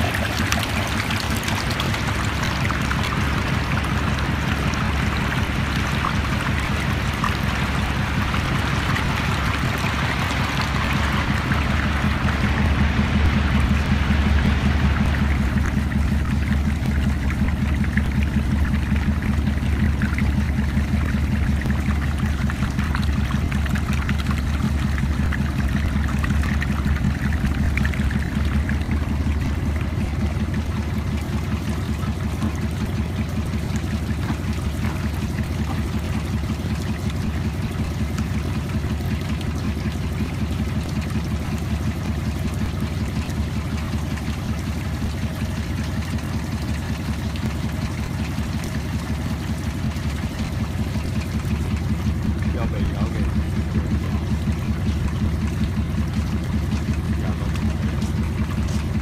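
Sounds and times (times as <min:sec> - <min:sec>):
low machine hum: 0:00.0 - 0:59.0
water splashing and flowing: 0:00.0 - 0:59.0.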